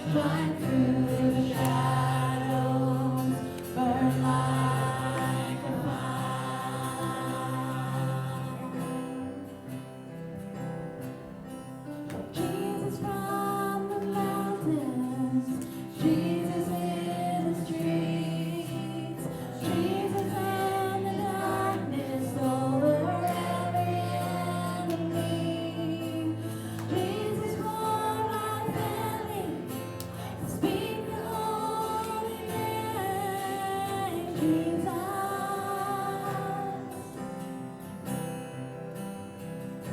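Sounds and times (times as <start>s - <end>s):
voices singing gospel: 0.0s - 9.9s, 12.3s - 38.2s.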